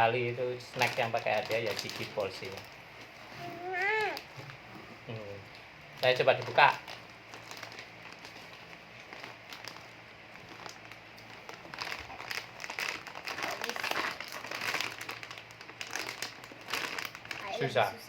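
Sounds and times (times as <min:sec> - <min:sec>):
plastic snack bag crinkling: 0:00.7 - 0:04.6, 0:05.9 - 0:17.6.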